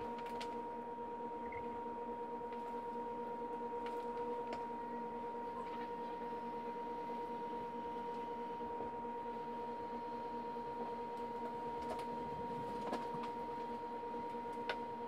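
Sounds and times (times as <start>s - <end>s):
constant whine: 0.0s - 15.0s
steady hum: 0.0s - 15.0s.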